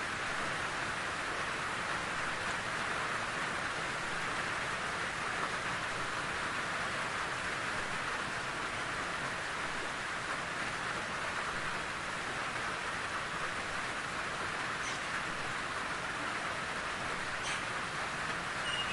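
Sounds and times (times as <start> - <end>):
rain falling in a forest: 0.0 - 18.9.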